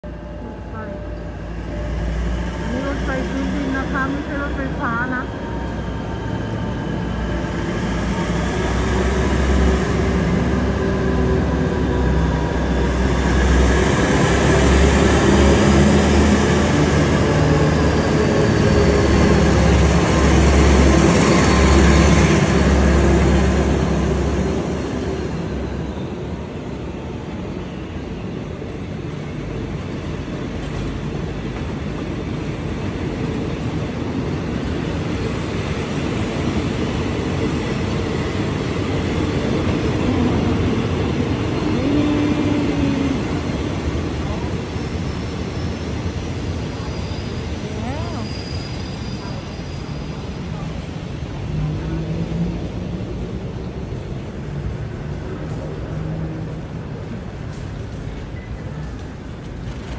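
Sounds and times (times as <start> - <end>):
passenger coaches rolling past: 0.0 - 59.9
locomotive engine rumble: 0.1 - 48.2.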